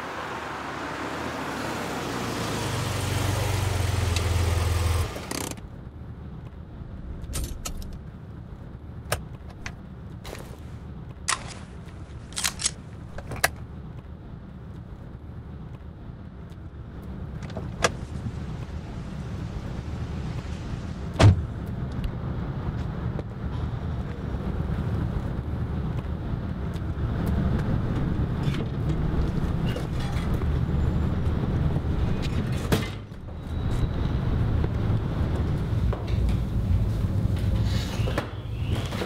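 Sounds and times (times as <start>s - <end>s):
rush of car noise: 0.0s - 39.0s.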